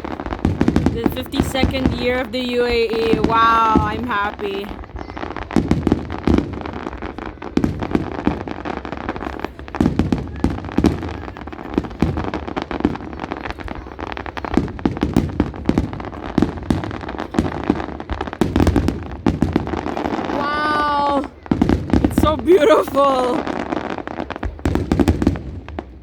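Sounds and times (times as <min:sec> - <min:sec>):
fireworks bangs and pops: 0:00.0 - 0:26.0
fireworks crackling: 0:00.0 - 0:26.0.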